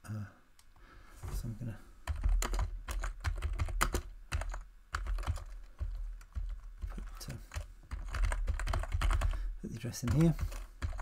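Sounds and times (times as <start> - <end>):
typing on computer keyboard: 2.1 - 11.0.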